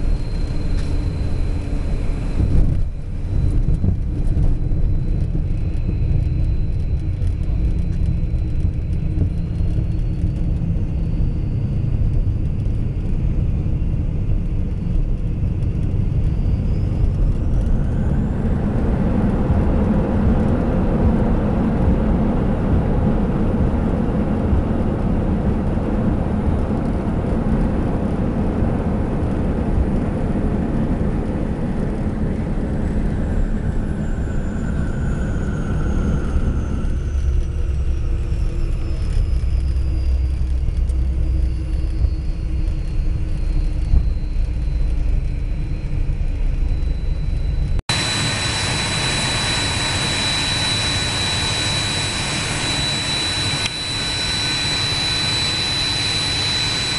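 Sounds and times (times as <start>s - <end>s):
jet cabin engine rumble: 0.0s - 56.9s
turbine whine rising in pitch: 0.0s - 56.9s.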